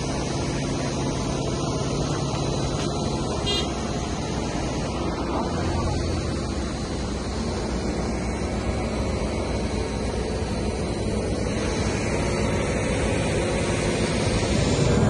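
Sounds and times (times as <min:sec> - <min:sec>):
rushing road noise: 0:00.0 - 0:15.0
truck engine hum: 0:00.0 - 0:15.0.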